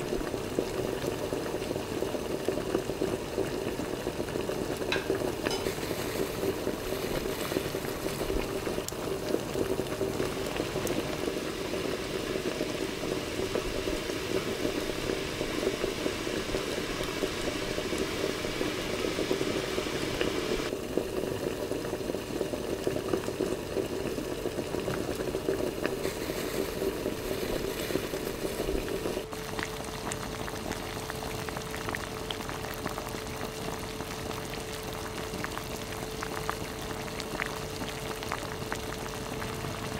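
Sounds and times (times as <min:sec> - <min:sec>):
stew bubbling: 0:00.0 - 0:39.9.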